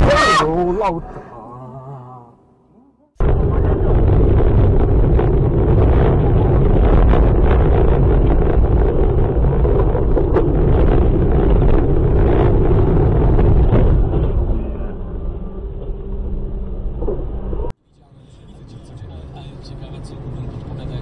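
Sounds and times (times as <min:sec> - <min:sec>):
road and wind noise: 0:03.2 - 0:21.0.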